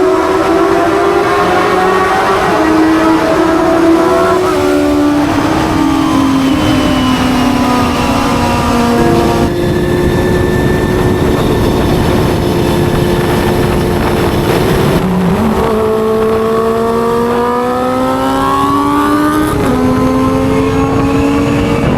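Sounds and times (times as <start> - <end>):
motorcycle engine revving high: 0.0 - 21.9.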